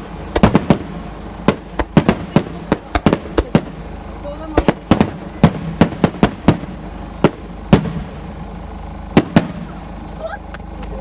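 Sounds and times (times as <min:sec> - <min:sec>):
fireworks shells bursting: 0:00.0 - 0:10.9.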